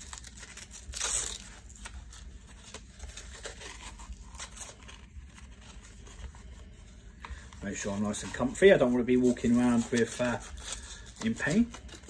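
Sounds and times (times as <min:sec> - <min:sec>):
velcro strap rustling and scratching: 0:00.0 - 0:12.0.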